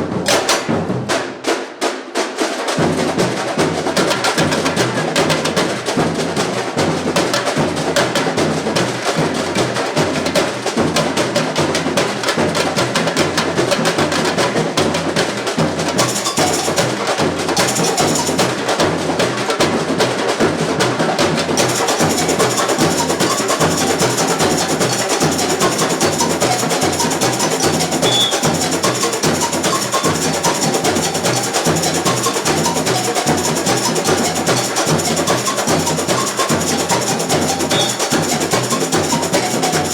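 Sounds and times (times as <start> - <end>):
samba drum ensemble: 0.0 - 39.9.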